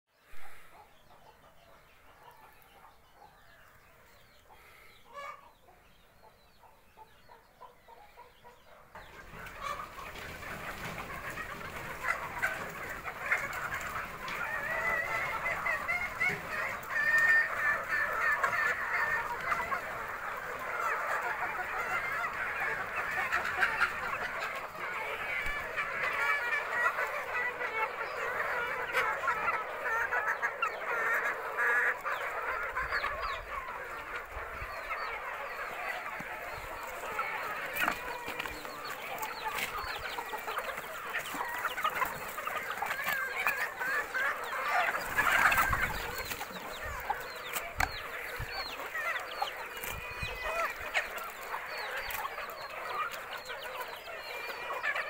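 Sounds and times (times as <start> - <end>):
flock of hens calling: 0.1 - 55.0.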